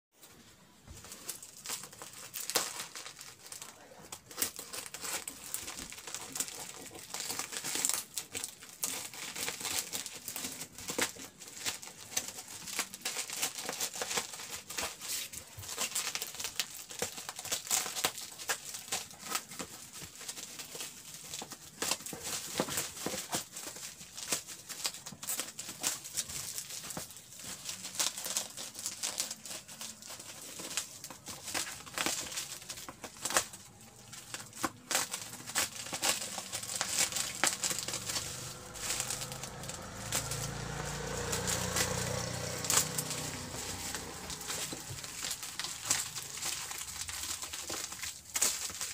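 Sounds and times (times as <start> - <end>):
plastic packaging crinkling: 0.2 - 48.9
scissors cutting plastic: 1.0 - 48.9.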